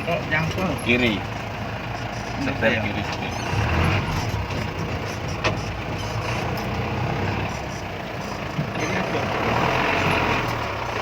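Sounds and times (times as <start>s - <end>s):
diesel engine low drone: 0.0s - 11.0s.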